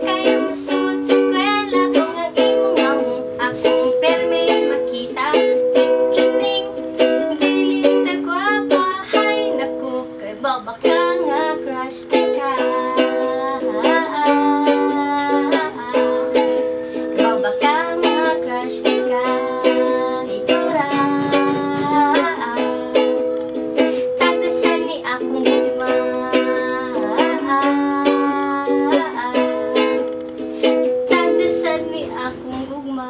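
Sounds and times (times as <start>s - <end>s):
ukulele strummed: 0.0s - 33.0s.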